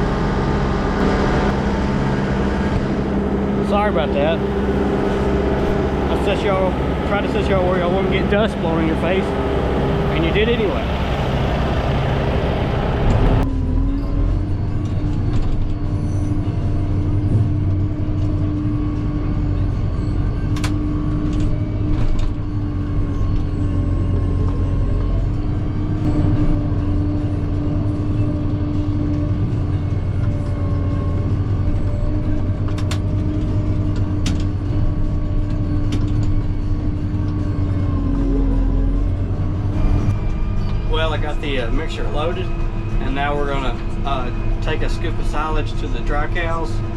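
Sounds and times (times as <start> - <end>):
farm machinery engine running: 0.0 - 46.9.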